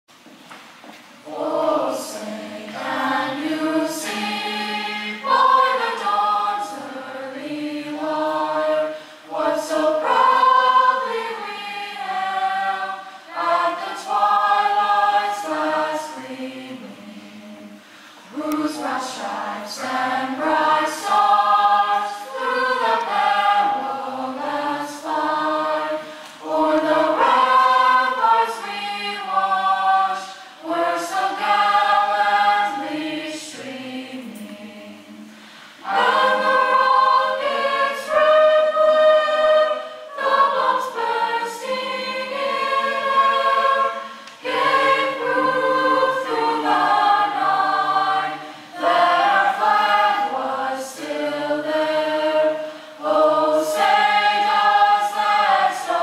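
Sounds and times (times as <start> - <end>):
choir singing unaccompanied: 1.2 - 56.0.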